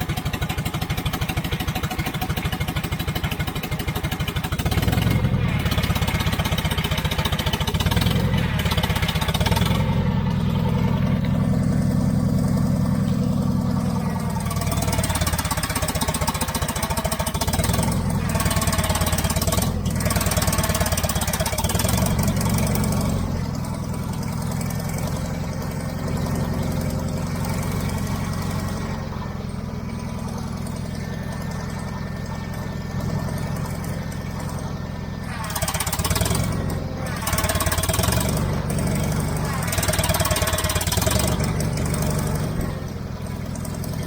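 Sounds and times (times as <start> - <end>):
engine clattering: 0.0 - 44.0.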